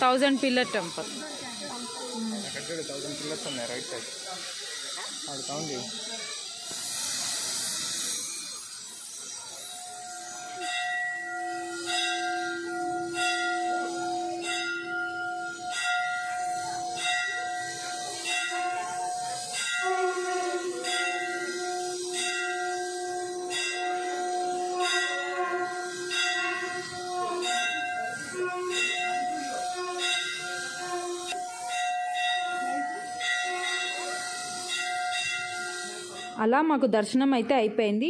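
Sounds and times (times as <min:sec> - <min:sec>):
temple bells ringing: 0:00.0 - 0:06.6, 0:08.8 - 0:36.7.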